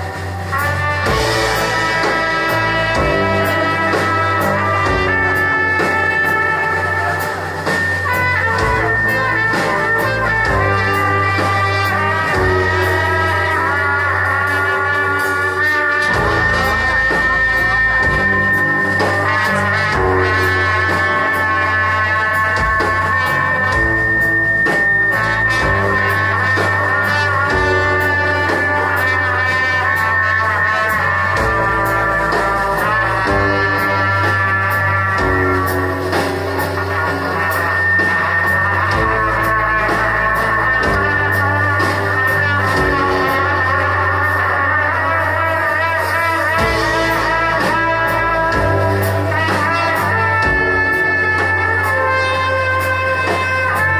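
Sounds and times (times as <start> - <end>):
electric guitar: 0.0 - 53.9
live rock band playing: 0.0 - 53.9
steady bass line: 0.0 - 53.9.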